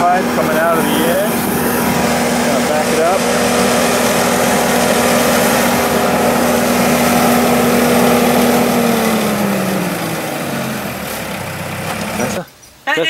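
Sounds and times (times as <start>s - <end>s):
drill engine running under load: 0.0s - 12.4s.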